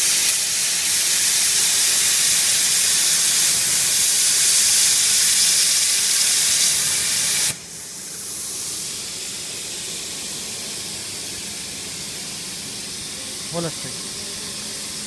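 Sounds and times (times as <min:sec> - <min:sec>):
plasma torch cutting steel: 0:00.0 - 0:15.0.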